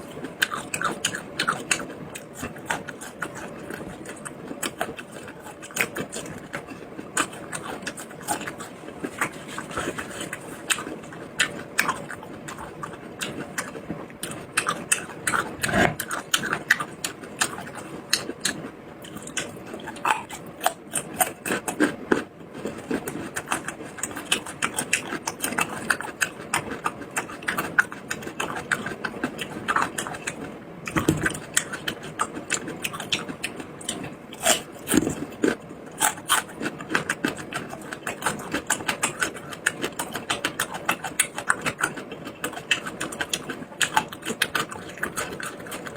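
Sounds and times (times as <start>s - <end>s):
close chewing with smacks: 0.0s - 45.9s.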